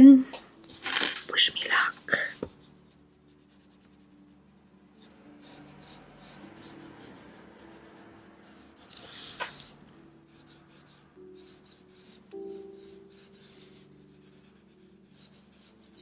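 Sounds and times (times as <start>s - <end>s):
marker scratching on paper: 1.7s - 16.0s.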